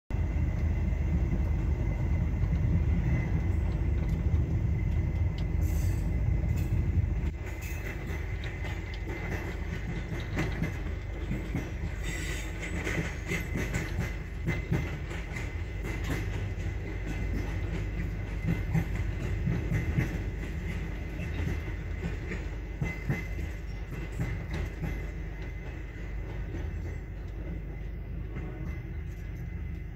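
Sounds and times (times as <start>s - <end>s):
train carriage rumble: 0.1s - 29.9s
wheels knocking and clattering: 0.4s - 27.6s.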